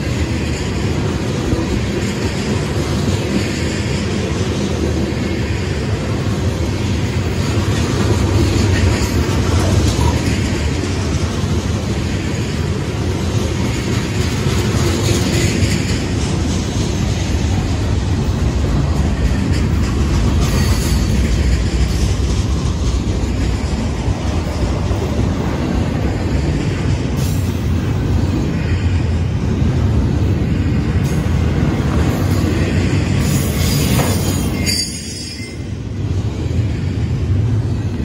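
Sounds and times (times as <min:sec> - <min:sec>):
train wheels clattering on rails: 0:00.0 - 0:38.0.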